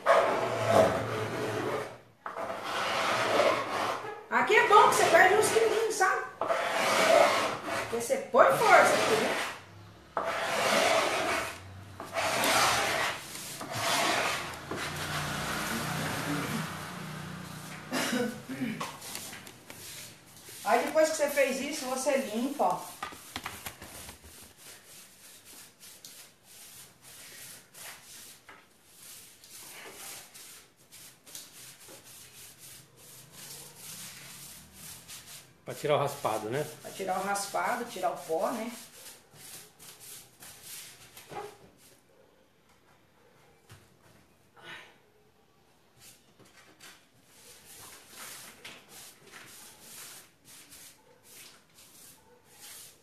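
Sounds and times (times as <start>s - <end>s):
rubbing on wooden tabletop: 0.0s - 9.6s, 10.2s - 42.0s, 47.3s - 53.0s.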